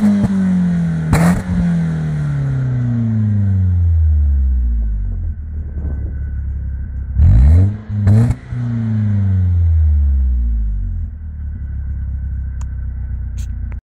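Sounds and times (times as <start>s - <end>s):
car engine idling and revving: 0.0s - 13.8s.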